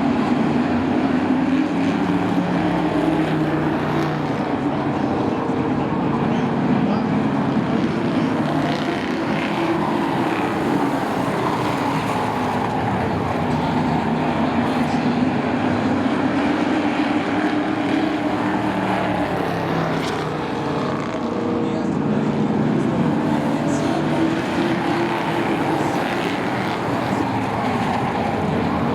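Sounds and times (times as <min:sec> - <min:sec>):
race truck engines droning: 0:00.0 - 0:28.9.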